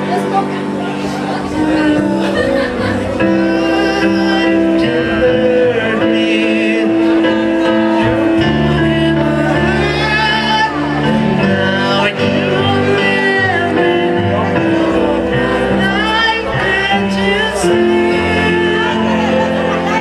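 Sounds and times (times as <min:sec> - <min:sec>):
person singing: 0:00.0 - 0:20.0
sustained keyboard chords: 0:00.0 - 0:20.0.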